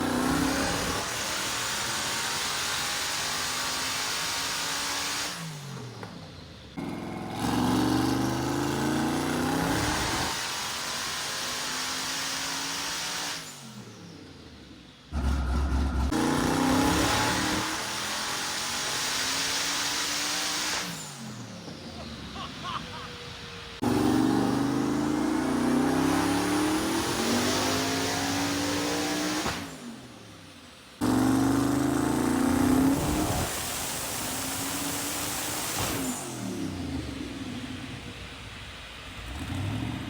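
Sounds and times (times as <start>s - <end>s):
car engine full-throttle pulls: 5.6s - 40.0s.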